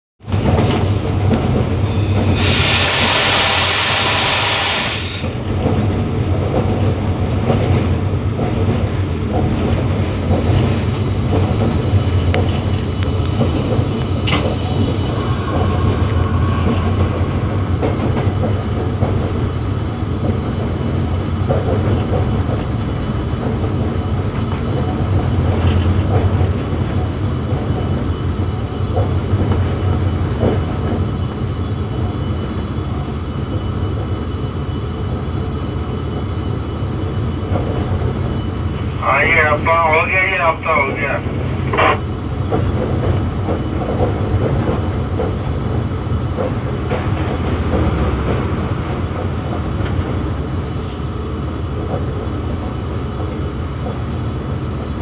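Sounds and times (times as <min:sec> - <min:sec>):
locomotive engine hum: 0:00.2 - 0:55.0
wheels rumbling on rails: 0:00.2 - 0:55.0.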